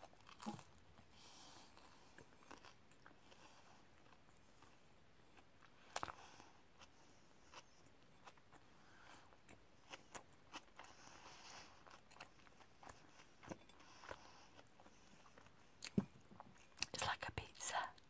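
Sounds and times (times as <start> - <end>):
person chewing sandwich: 0.0 - 16.9.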